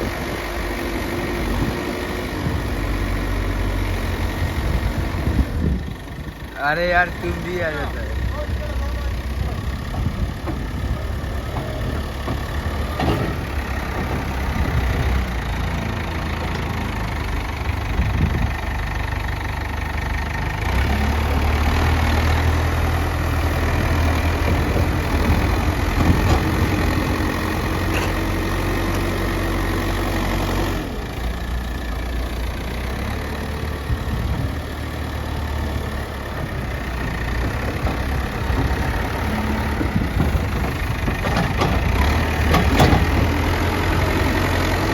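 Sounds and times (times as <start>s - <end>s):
earthmover diesel engine running: 0.0s - 44.9s.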